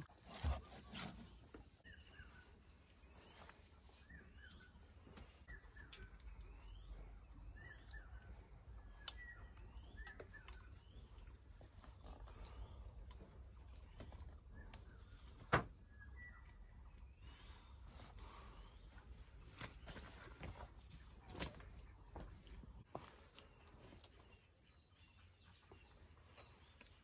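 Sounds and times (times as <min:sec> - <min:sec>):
bird chirping: 0:00.0 - 0:22.2, 0:22.8 - 0:27.0.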